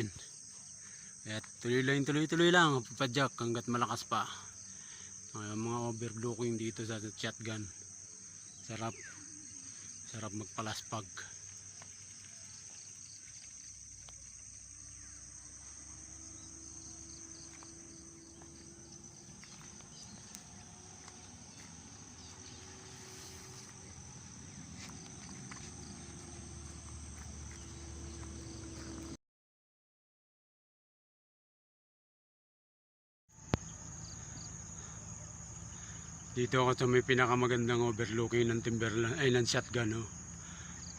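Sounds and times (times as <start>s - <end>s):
high-pitched insect chorus: 0.0s - 29.2s, 33.4s - 40.9s.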